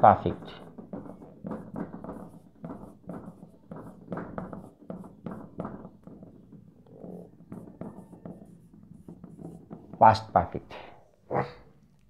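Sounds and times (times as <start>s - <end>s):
marker pen on whiteboard: 0.0s - 11.2s.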